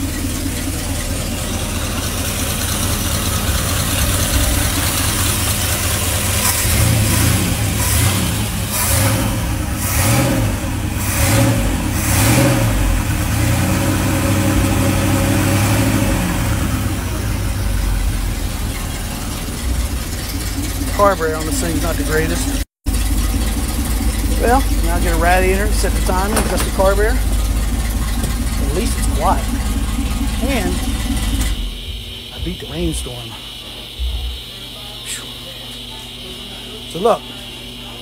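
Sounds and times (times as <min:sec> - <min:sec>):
engine revving and idling: 0:00.0 - 0:38.0.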